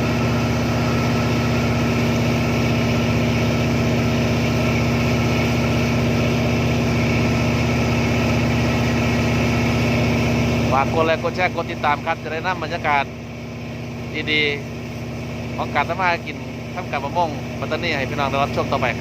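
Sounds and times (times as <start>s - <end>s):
boat diesel engine drone: 0.0s - 19.0s.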